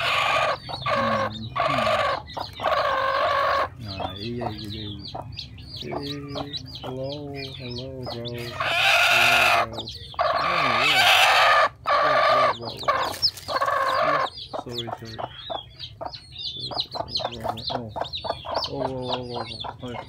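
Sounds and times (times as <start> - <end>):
chick peeping: 0.0 - 20.0
hen clucking: 0.0 - 20.0
hen squawking: 0.0 - 20.0.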